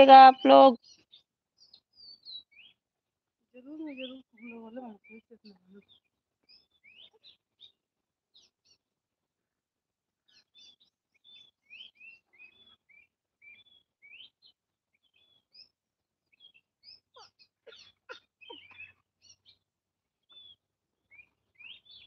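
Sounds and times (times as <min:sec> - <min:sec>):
faint birds chirping: 0:00.0 - 0:02.8, 0:03.5 - 0:08.9, 0:10.2 - 0:22.0.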